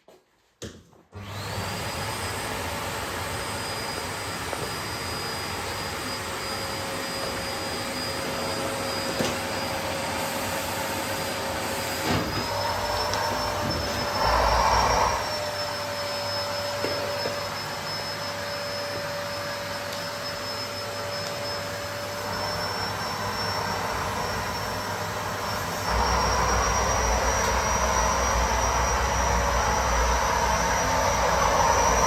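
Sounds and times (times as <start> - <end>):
vacuum cleaner drone and whine: 1.1 - 32.0.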